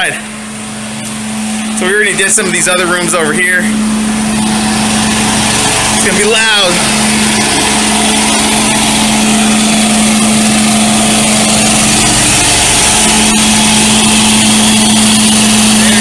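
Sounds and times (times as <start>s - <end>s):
engine and vacuum blower droning: 0.0s - 16.0s.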